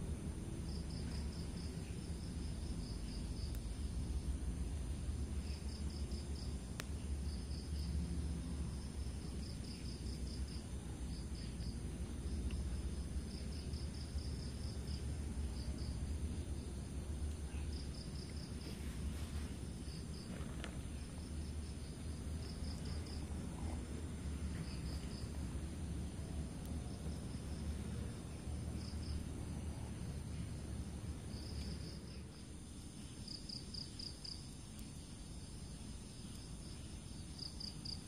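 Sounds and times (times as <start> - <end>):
steady low rumble: 0.0 - 37.5
insects chirping in pulsed trills: 0.0 - 38.0.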